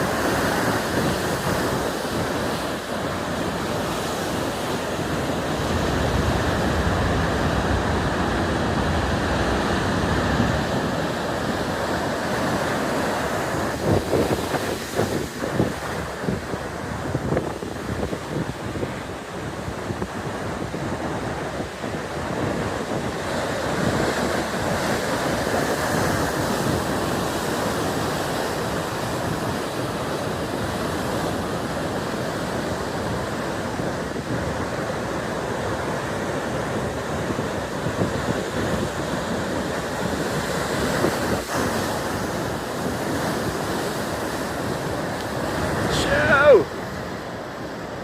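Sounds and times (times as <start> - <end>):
heavy ocean surf breaking: 0.0 - 48.0
wind buffeting microphone: 0.0 - 48.0.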